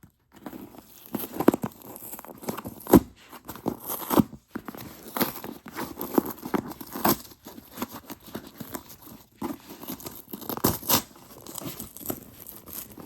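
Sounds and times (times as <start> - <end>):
packaging tearing and crinkling: 0.4 - 13.0.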